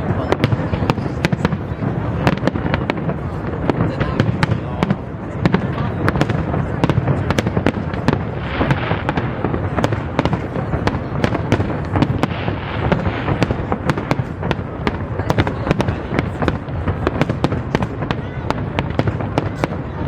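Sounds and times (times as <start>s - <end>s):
fireworks bursting with bangs: 0.0s - 20.0s
fireworks crackle: 0.0s - 20.0s.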